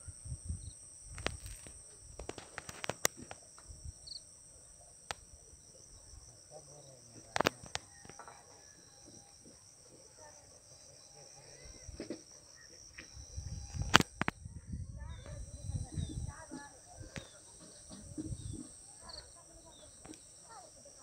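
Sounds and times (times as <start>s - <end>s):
insect chorus trilling: 0.0s - 21.0s.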